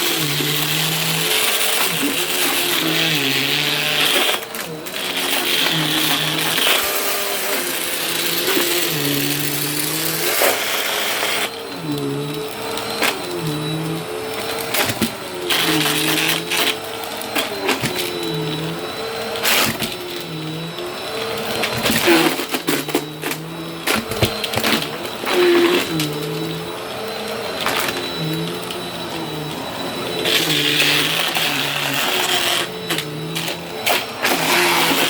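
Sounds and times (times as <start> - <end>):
vacuum cleaner running: 0.0 - 35.0.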